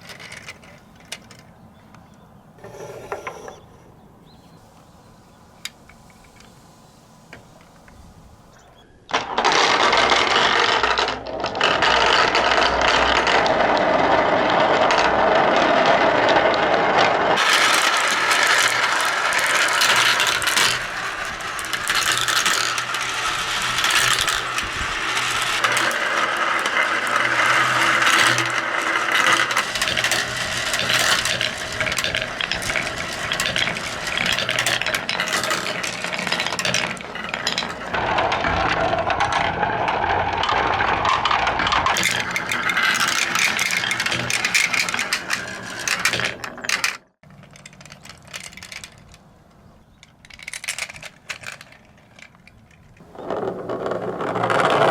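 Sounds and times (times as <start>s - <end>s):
marbles rattling down tracks: 0.0s - 1.5s, 9.1s - 49.3s, 50.0s - 54.9s.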